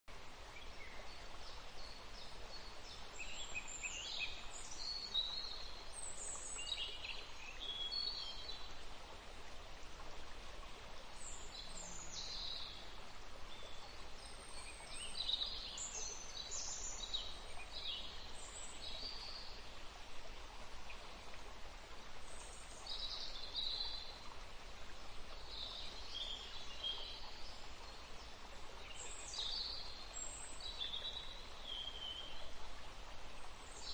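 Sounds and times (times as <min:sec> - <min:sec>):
background hiss: 0:00.1 - 0:33.9.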